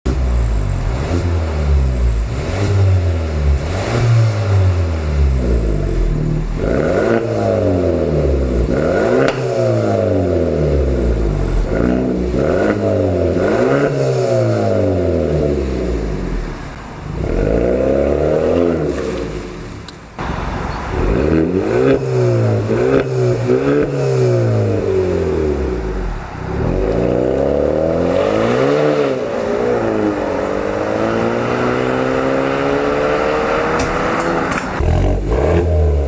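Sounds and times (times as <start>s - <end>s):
car engine revving: 0.1s - 36.0s.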